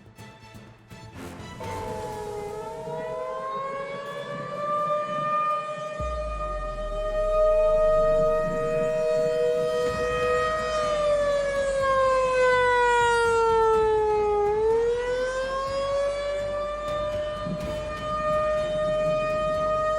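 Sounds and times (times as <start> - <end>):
two-note warning siren: 1.6 - 19.9.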